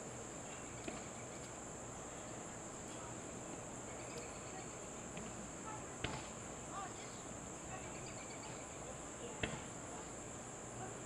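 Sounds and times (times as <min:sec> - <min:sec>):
crickets trilling: 0:00.2 - 0:11.0.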